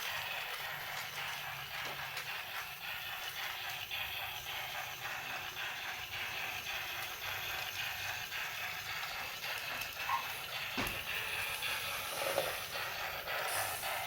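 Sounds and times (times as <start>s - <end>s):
clicks of toy train track: 0.0s - 14.0s
toy train motor whirring: 0.0s - 14.0s.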